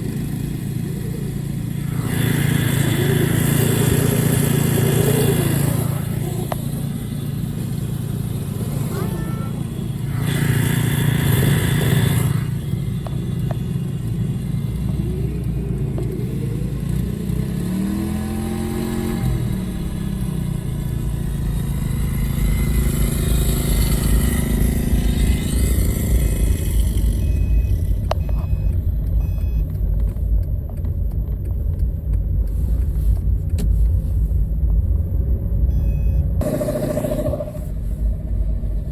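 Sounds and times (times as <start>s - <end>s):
small engine running: 0.0s - 29.6s, 36.4s - 38.9s.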